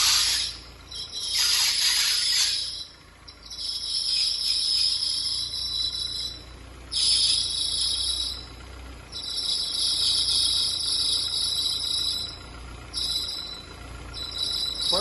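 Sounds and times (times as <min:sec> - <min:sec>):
car engine idling: 0:00.0 - 0:15.0
drive belt squealing: 0:00.0 - 0:15.0.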